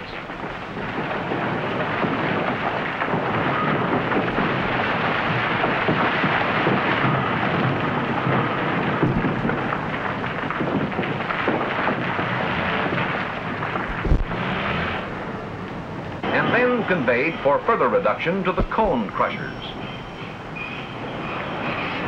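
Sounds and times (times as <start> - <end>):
rocks rumbling down a chute: 0.0 - 22.0.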